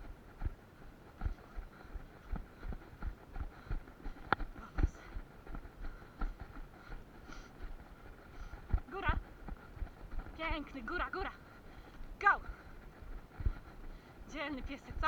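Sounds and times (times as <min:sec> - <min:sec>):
running footsteps: 0:00.0 - 0:15.0.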